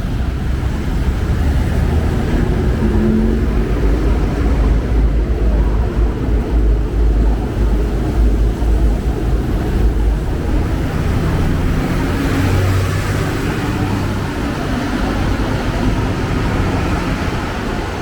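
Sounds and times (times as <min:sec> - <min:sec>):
deeper engine tone: 0:00.0 - 0:18.0
vehicle engines rumbling: 0:00.0 - 0:18.0.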